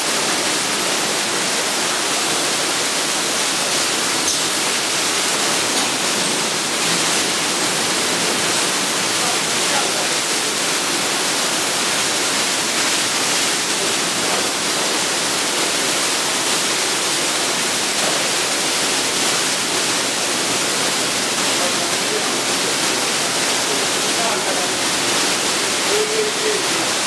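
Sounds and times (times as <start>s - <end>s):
car wash water spray hiss: 0.0s - 27.0s.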